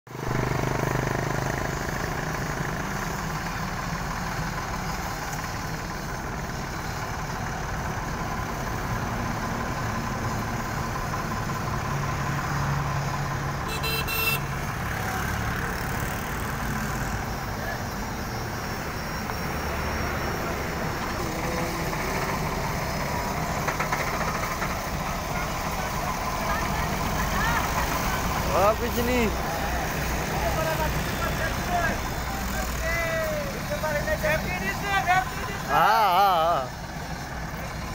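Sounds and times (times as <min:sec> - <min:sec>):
tractor diesel engine under load: 0:00.1 - 0:37.9.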